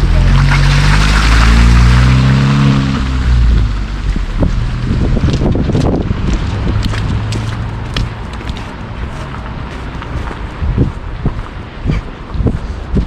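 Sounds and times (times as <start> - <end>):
engine passing by: 0.0 - 11.0.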